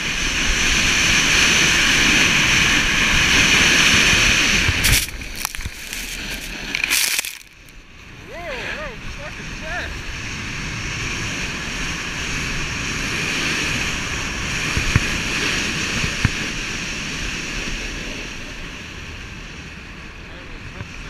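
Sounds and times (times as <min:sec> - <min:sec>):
wind rumbling on microphone: 0:00.0 - 0:21.0
snowboard hissing on snow: 0:00.1 - 0:18.2.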